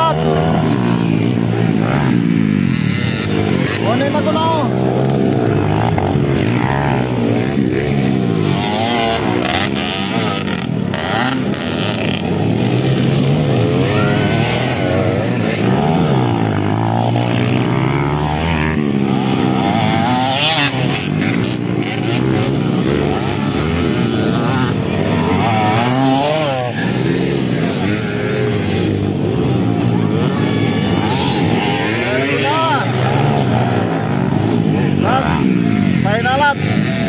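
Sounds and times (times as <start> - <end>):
dirt bike engines revving: 0.0 - 37.0.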